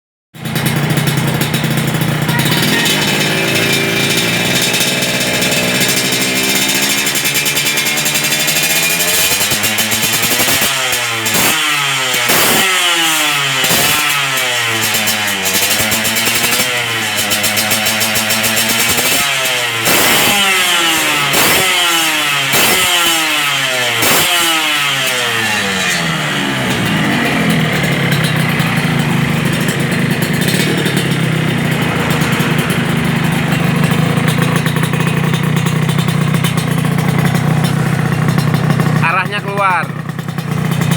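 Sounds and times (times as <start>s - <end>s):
two-stroke motorcycle engine revving: 0.4s - 40.9s.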